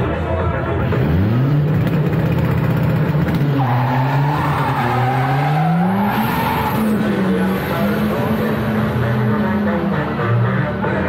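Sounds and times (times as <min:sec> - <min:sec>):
racing car engine revving: 0:00.7 - 0:11.0.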